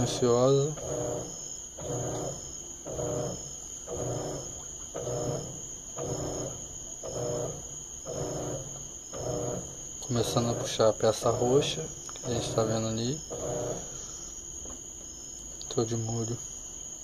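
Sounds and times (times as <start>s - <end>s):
washing machine agitating: 0.0s - 14.0s.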